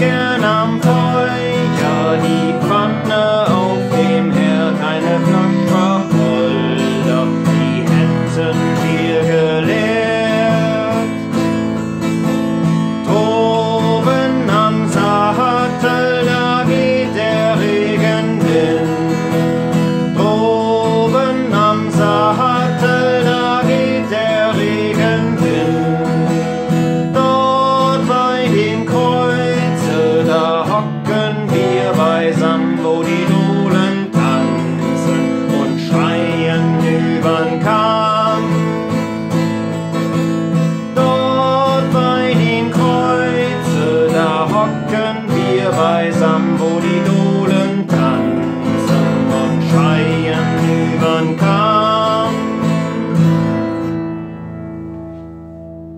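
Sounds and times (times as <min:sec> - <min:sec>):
guitar melody line: 0:00.0 - 0:55.9
strummed acoustic guitar: 0:00.0 - 0:55.9.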